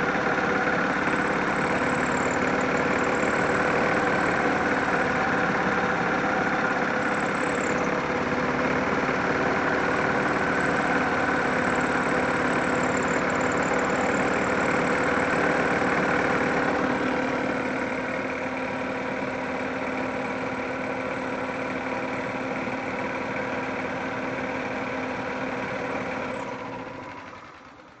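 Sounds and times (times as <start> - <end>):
golf cart drive belt squealing: 0.0 - 27.2.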